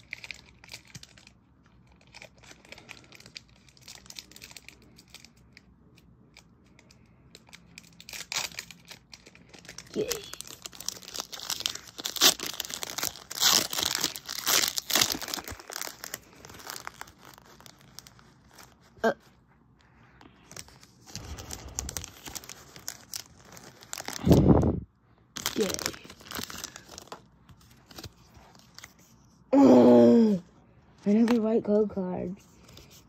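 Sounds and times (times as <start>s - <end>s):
foil wrapper crinkling and tearing: 0.0s - 19.3s, 20.4s - 24.7s, 25.3s - 29.2s.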